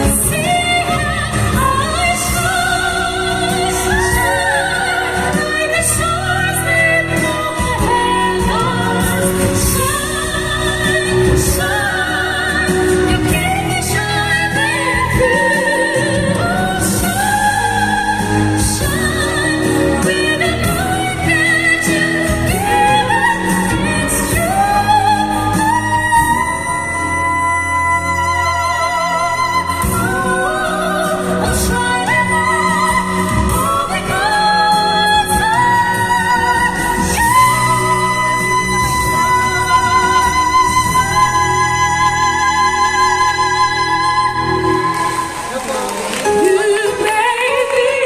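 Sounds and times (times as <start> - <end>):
singing with vibrato: 0.0 - 48.0.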